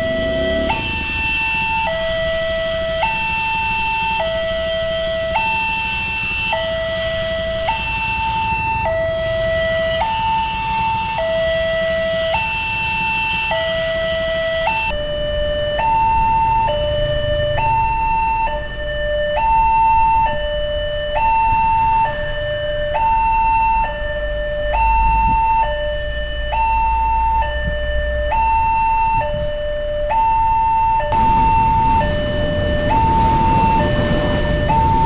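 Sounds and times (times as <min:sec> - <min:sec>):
idling traffic engines rumbling: 0:00.0 - 0:35.0.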